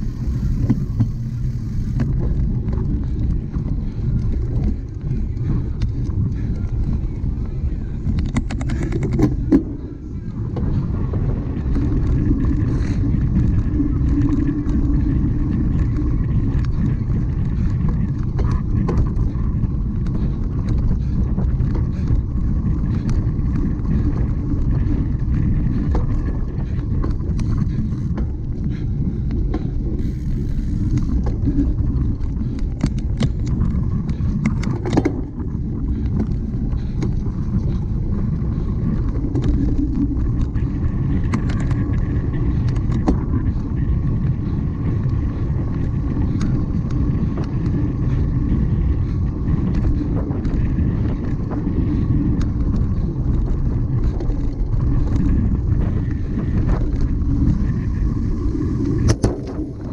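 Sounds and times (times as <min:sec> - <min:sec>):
bike rattling and clicking: 0:00.0 - 0:59.9
wind and tyre rumble: 0:00.0 - 0:59.9.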